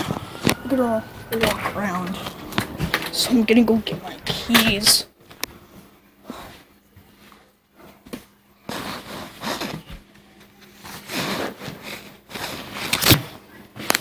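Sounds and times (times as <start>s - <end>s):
faint steady hum: 0.0s - 14.0s
rustling and shuffling: 0.0s - 14.0s.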